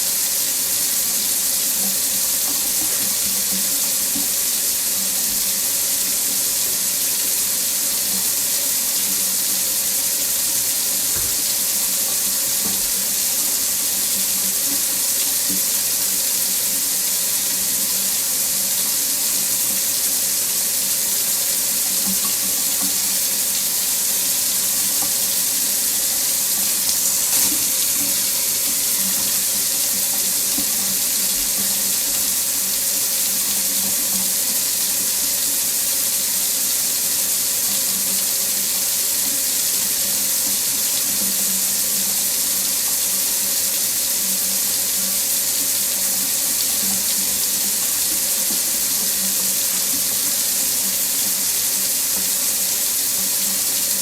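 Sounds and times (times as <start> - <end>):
water running from faucet into sink: 0.0 - 54.0.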